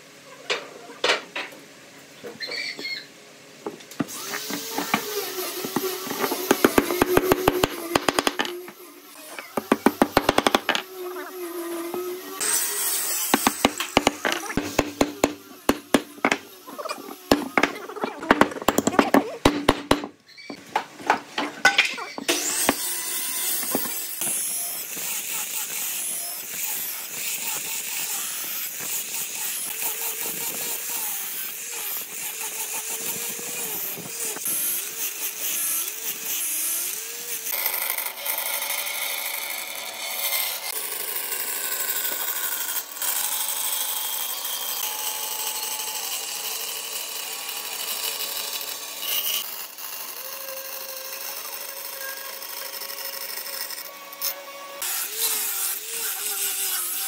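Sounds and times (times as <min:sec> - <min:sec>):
power tools cutting wood: 0:02.5 - 0:57.0.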